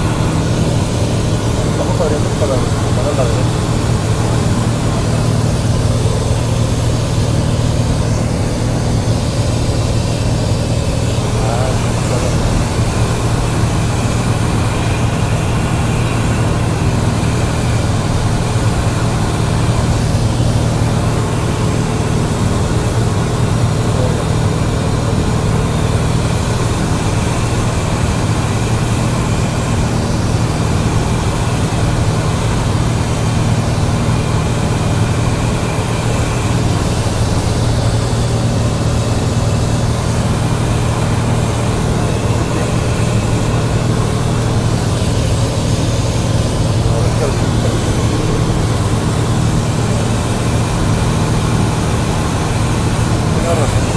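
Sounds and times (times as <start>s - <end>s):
airplane engine humming: 0.0s - 53.9s.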